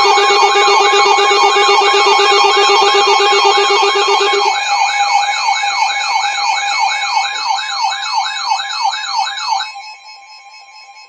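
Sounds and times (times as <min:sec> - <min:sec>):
two-tone alert signal: 0:00.0 - 0:09.7
warbling siren: 0:00.0 - 0:11.0.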